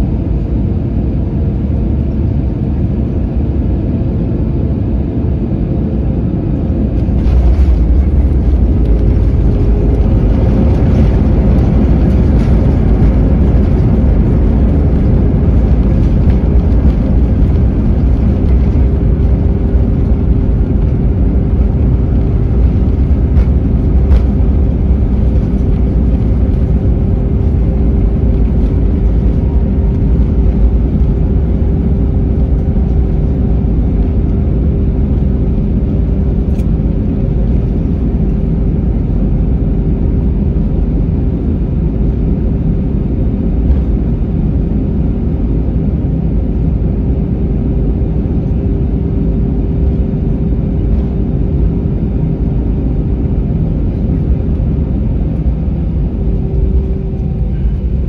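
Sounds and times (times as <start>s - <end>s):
airliner cabin rumble while taxiing: 0.0s - 58.0s
constant cabin hum: 0.0s - 58.0s.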